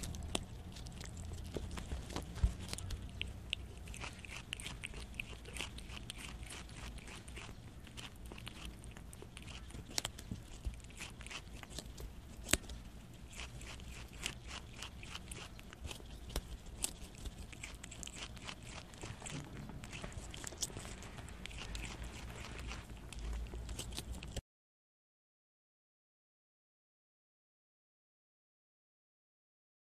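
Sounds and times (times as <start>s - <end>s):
small animal chewing clicking bites: 0.0s - 24.4s.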